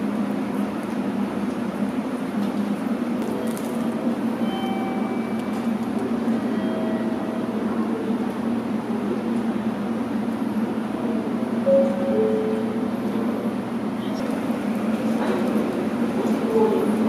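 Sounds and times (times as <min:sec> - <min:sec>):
railway platform hum and rumble: 0:00.0 - 0:17.0.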